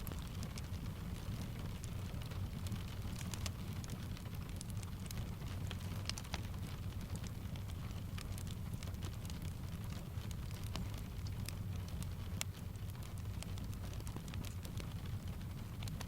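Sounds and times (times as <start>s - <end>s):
steady rain: 0.0s - 16.0s
wood fire crackling and popping: 0.0s - 16.0s.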